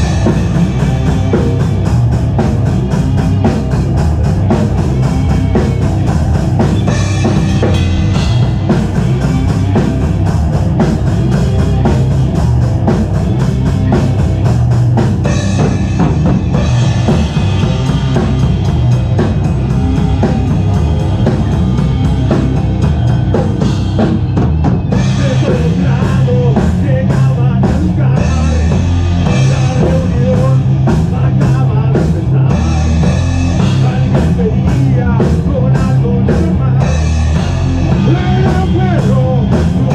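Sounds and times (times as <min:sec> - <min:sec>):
drum kit: 0:00.0 - 0:39.9
heavy guitar and bass: 0:00.0 - 0:39.9.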